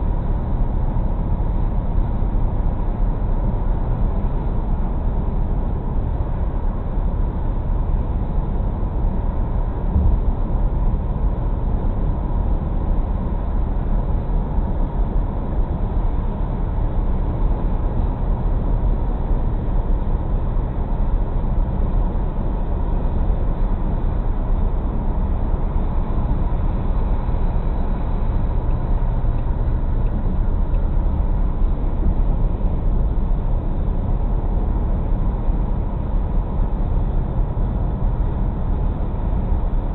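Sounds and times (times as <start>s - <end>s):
car cabin road and engine rumble: 0.0s - 39.9s.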